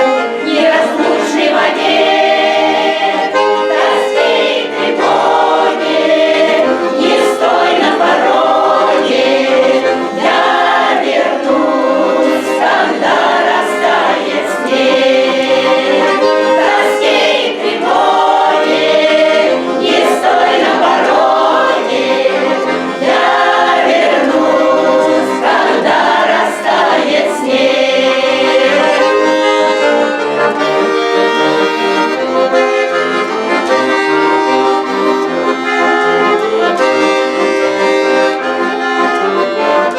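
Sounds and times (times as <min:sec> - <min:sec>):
accordion: 0:00.0 - 0:39.9
group singing folk song: 0:00.0 - 0:39.9.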